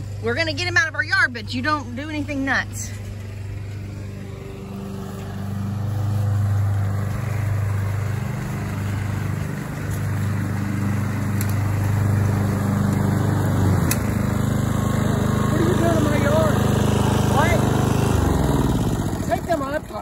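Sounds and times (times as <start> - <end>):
push lawn mower engine running: 0.0 - 20.0.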